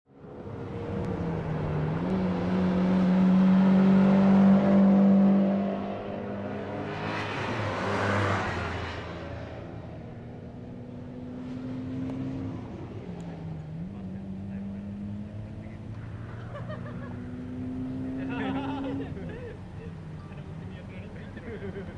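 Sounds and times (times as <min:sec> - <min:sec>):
car engine droning: 0:00.1 - 0:21.9
car passing by: 0:00.5 - 0:19.4.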